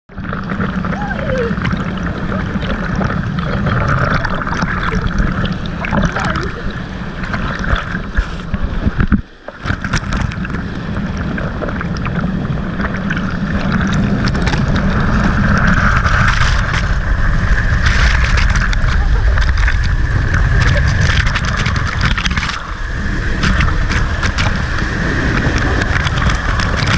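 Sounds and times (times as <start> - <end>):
water hitting the camera: 0.1 - 26.9
water rushing over a weir: 0.1 - 26.9.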